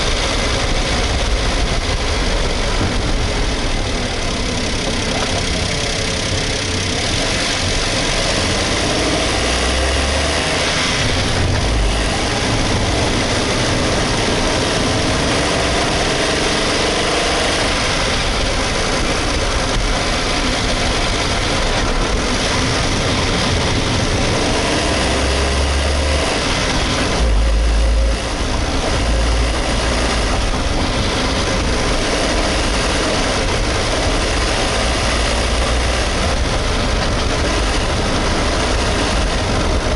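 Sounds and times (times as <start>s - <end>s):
small car engine running: 0.0s - 39.9s.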